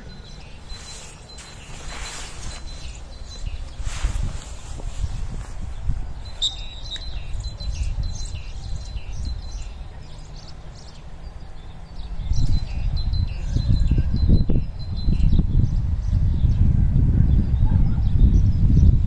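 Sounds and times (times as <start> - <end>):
small birds chirping: 0.0 - 16.7.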